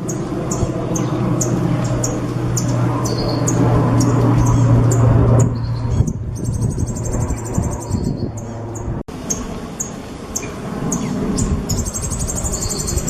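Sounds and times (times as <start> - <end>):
songbird chirping and trilling: 0.0 - 13.0
steady low hum: 0.0 - 13.0.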